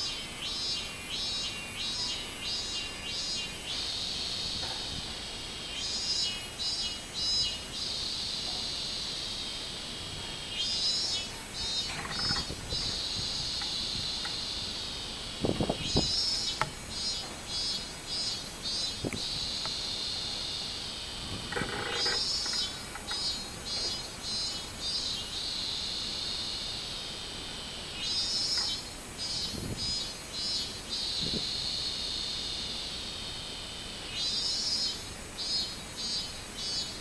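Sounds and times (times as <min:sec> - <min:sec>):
cicadas singing: 0:00.0 - 0:37.0.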